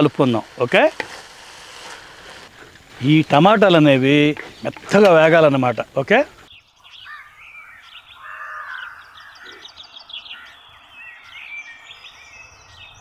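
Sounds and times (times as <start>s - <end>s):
birds chirping and trilling: 0.0s - 13.0s.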